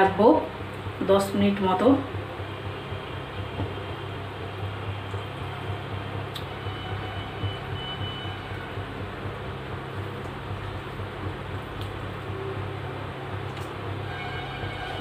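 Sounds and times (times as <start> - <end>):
gas stove burner roaring: 0.0 - 15.0.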